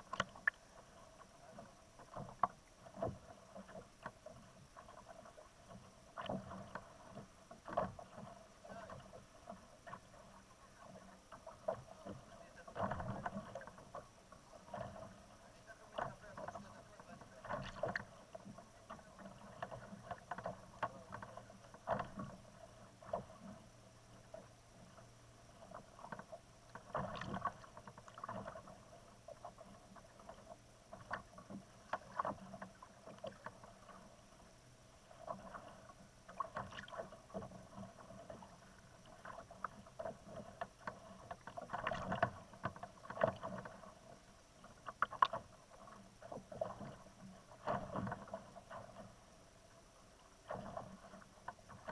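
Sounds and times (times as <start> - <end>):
small waves lapping against kayak: 0.0 - 51.9.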